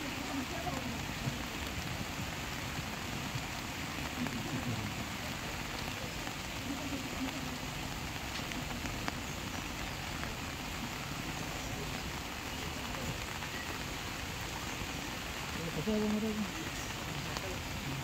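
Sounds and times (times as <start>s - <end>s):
faint voices: 0.0s - 18.0s
heavy rain falling: 0.0s - 18.0s.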